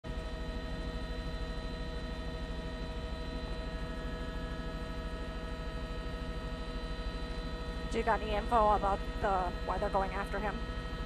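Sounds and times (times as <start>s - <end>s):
helicopter cabin whine: 0.0s - 11.0s.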